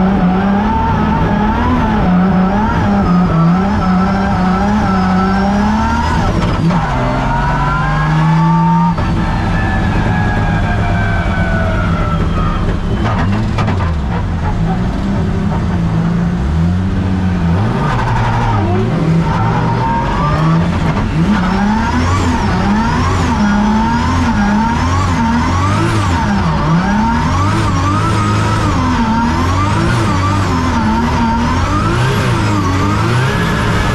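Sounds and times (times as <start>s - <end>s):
race car engine revving: 0.0s - 33.9s.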